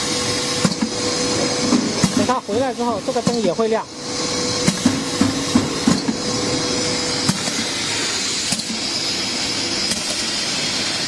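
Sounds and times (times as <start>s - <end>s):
machine air hiss and hum: 0.0s - 11.0s.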